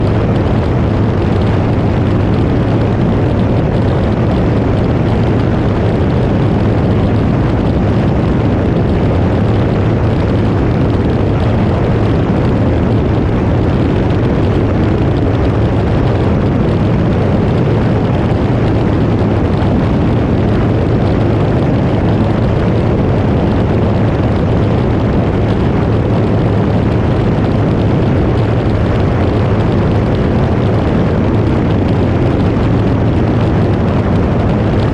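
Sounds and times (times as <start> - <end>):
airplane engine drone: 0.0 - 34.9
rushing air noise: 0.0 - 34.9.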